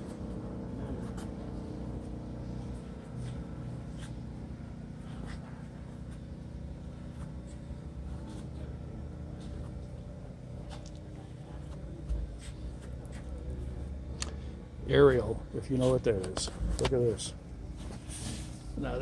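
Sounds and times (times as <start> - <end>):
low hum of indoor hall: 0.0 - 19.0.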